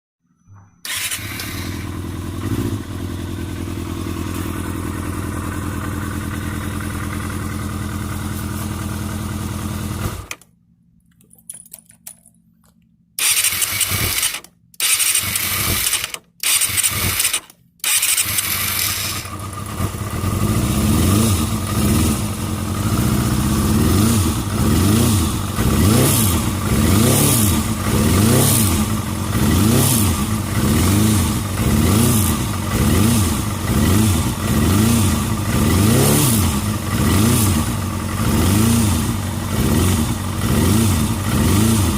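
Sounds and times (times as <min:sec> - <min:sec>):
motorcycle engine idling and revving: 0:00.5 - 0:10.5, 0:13.2 - 0:41.9.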